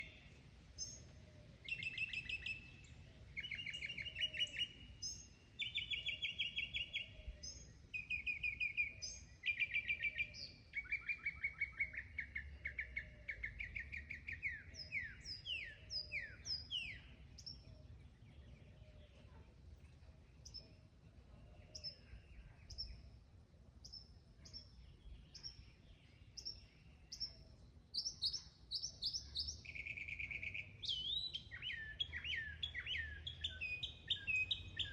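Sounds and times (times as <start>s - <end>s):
mockingbird singing: 0.0s - 19.3s, 23.8s - 34.9s.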